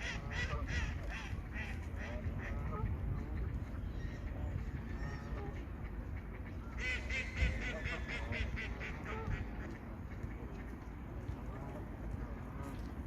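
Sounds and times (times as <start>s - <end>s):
ducks quacking: 0.0s - 10.8s.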